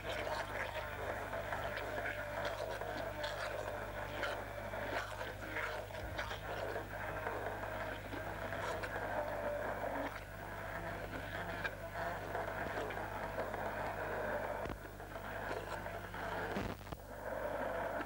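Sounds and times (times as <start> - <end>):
immersion blender running: 0.0 - 16.5.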